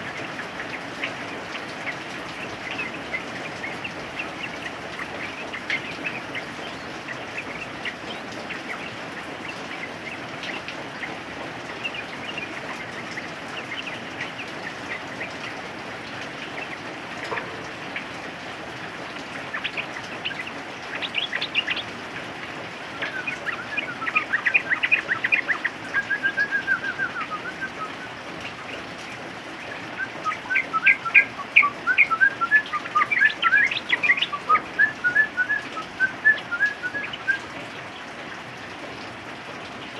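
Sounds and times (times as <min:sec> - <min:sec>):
bulbuls calling: 0:00.0 - 0:38.2
rain hiss: 0:00.0 - 0:39.9.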